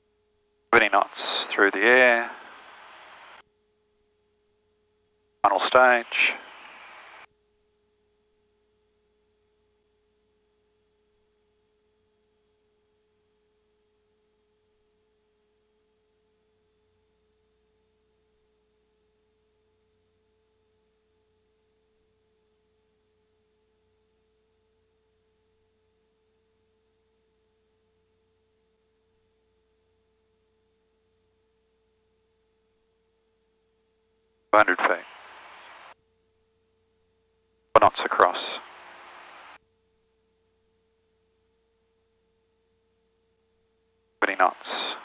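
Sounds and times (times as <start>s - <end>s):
faint steady tone: 0.0s - 45.0s.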